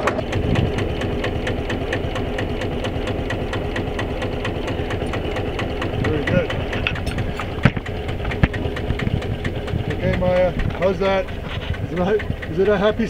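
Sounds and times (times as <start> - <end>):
diesel engine idling with knock: 0.0 - 13.0.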